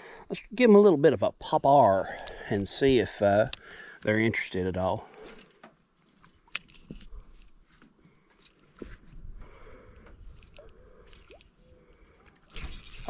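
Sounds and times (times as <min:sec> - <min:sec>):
high-pitched insect trill: 0:00.1 - 0:13.0.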